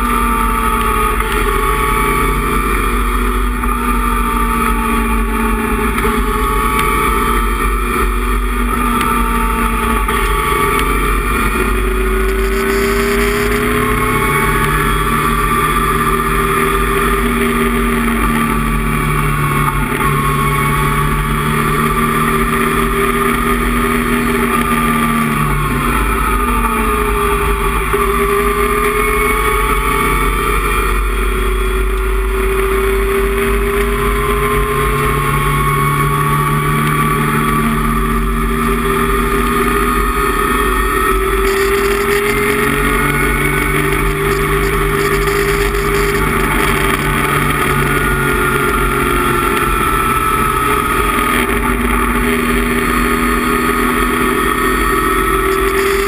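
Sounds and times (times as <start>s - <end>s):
race car engine at full throttle: 0.0s - 56.0s
road and wind noise: 0.0s - 56.0s.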